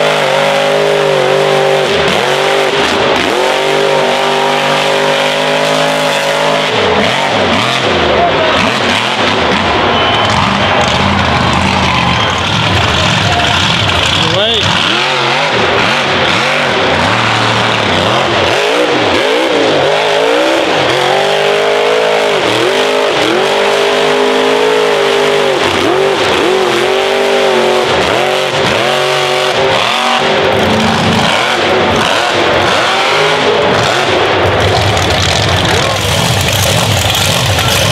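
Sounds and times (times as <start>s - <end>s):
tires spinning in mud: 0.0s - 37.9s
truck engine revving hard: 0.0s - 37.9s.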